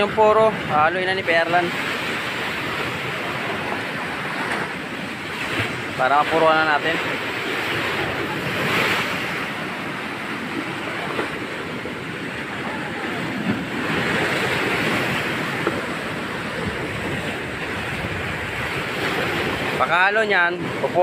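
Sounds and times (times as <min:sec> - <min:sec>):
wind on microphone: 0:00.0 - 0:19.9
surf washing against seawall: 0:00.0 - 0:21.0.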